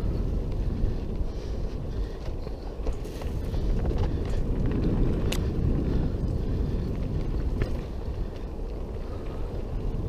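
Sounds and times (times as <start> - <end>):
bike tyres rumbling on dirt: 0.0 - 10.0
wind on microphone: 0.0 - 10.0.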